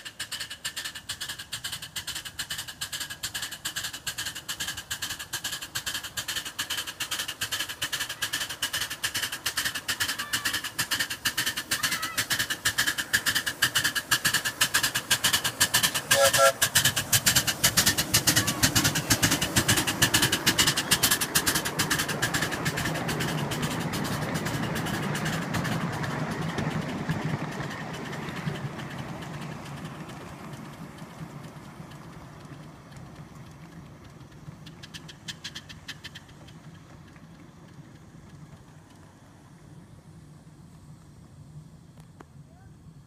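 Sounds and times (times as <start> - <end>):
steam locomotive exhaust beats: 0.0 - 43.0
wheels clattering on rails: 0.0 - 43.0.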